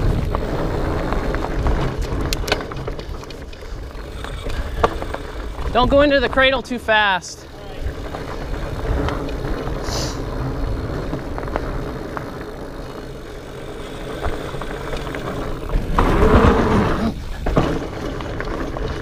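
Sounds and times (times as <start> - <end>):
bike rattles and clicks: 0.0 - 19.0
bike tyres rumbling on rocks: 0.0 - 19.0.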